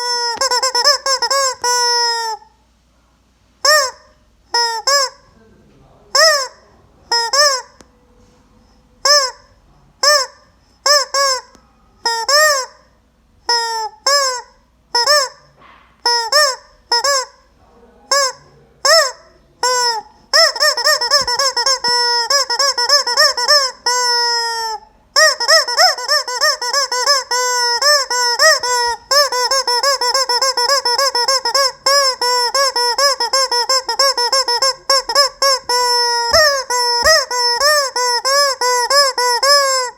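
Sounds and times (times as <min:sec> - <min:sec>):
squeaky rubber chicken toy squawking: 0:00.0 - 0:02.6, 0:03.6 - 0:05.3, 0:06.1 - 0:07.8, 0:09.0 - 0:17.5, 0:18.1 - 0:39.9.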